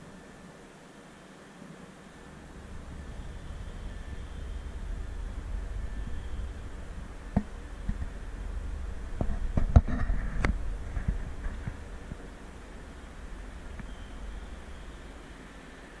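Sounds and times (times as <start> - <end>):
wind rumbling on microphone: 1.5 - 16.0.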